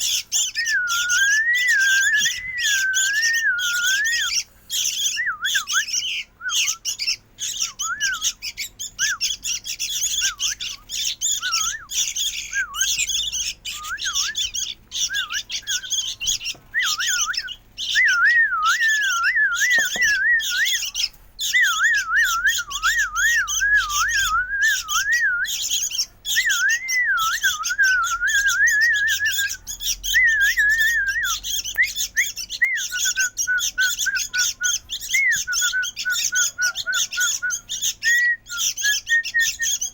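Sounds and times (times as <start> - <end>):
bird chick chattering: 0.0 - 39.9.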